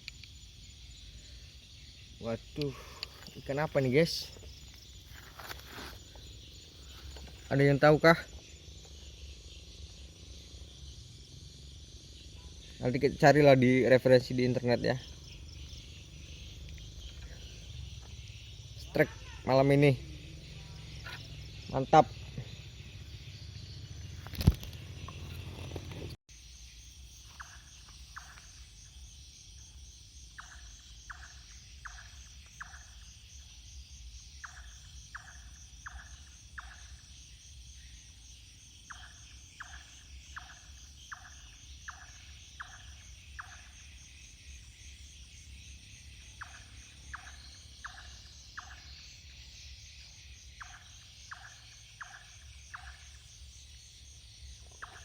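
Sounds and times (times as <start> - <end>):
insect chorus: 0.0 - 55.0.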